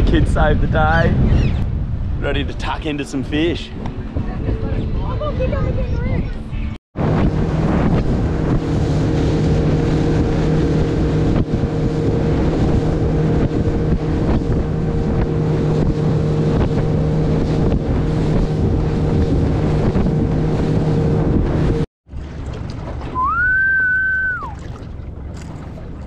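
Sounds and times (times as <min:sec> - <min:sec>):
wind on microphone: 0:00.0 - 0:21.9
boat motor droning: 0:03.3 - 0:26.0.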